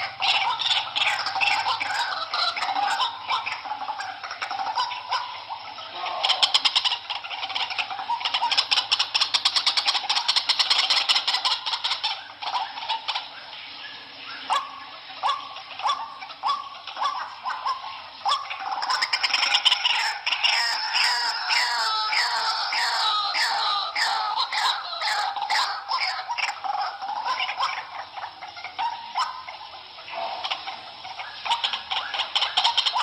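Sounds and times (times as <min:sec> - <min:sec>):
waterhen calling: 0:00.0 - 0:33.0.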